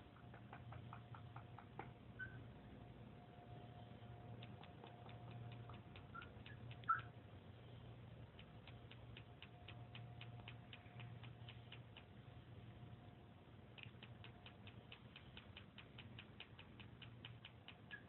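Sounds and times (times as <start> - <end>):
low steady hum: 0.0 - 18.0
soft chirp: 2.1 - 13.2, 13.8 - 18.0
faint rapid ticking: 3.4 - 18.0.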